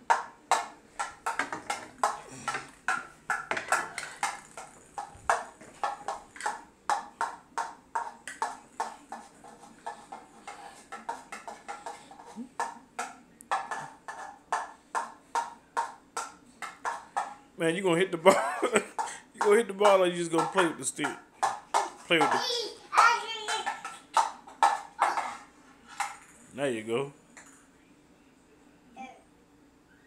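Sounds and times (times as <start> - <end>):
toy golf club tapping tile floor: 0.1 - 17.4, 18.9 - 26.4.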